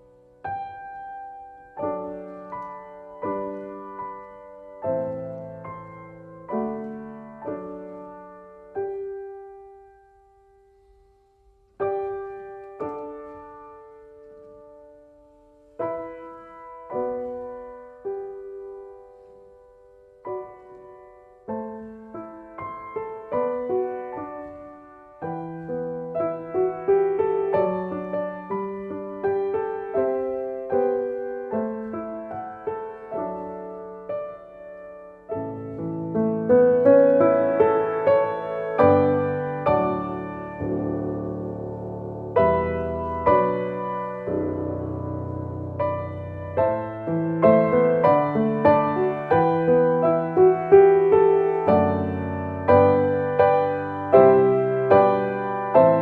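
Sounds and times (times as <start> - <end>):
slow solo piano: 0.0 - 56.0.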